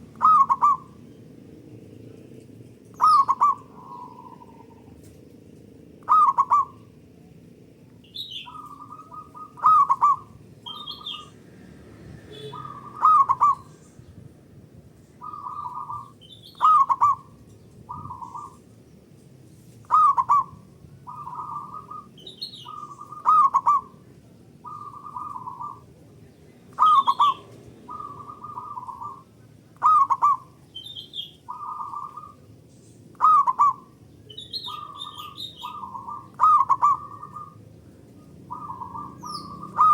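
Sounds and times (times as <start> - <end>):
doves cooing: 0.0 - 1.4, 2.9 - 5.2, 6.0 - 7.1, 8.2 - 13.8, 15.1 - 18.8, 19.8 - 39.9.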